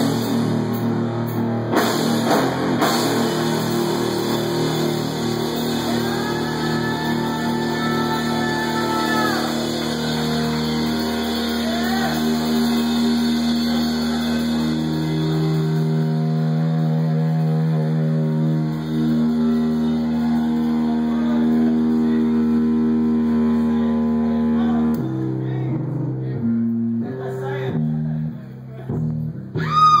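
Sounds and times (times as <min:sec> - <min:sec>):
droning metal band: 0:00.0 - 0:30.0
sliding high guitar notes: 0:00.0 - 0:30.0.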